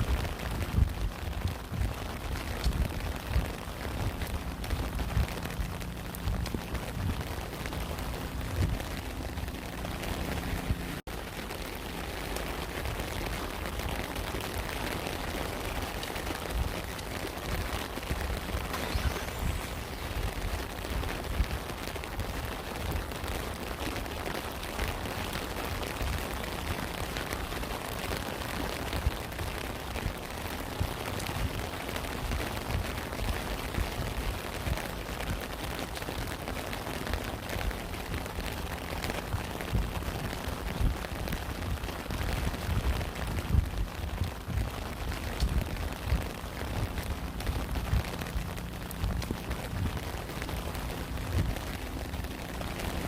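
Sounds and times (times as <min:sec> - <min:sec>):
raindrops ticking: 0:00.0 - 0:53.0
steady rain falling: 0:00.0 - 0:53.0.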